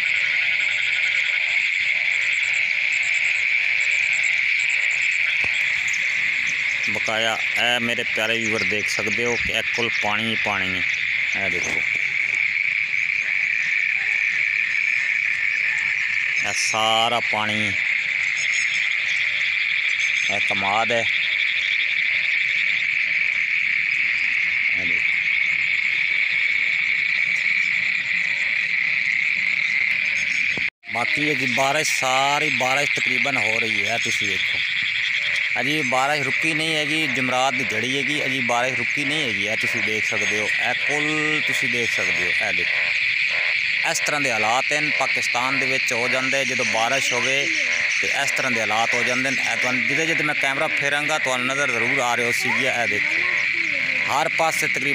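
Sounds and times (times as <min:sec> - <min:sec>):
chorus of calling insects: 0:00.0 - 0:54.9
crickets trilling: 0:00.0 - 0:54.9.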